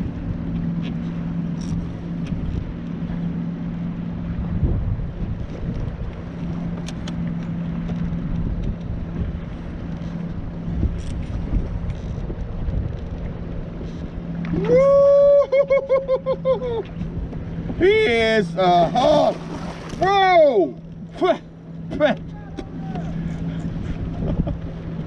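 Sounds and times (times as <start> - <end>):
wind rumbling on microphone: 0.0 - 20.2, 22.2 - 25.0
low motor drone: 0.0 - 25.0.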